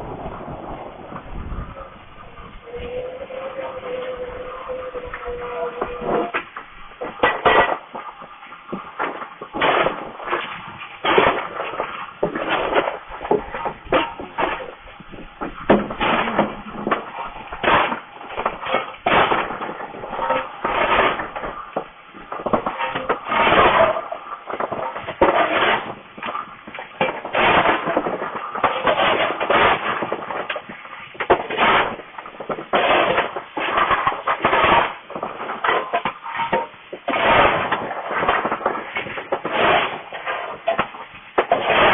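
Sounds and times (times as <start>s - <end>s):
coal shovel scraping and clattering: 1.1s - 41.9s.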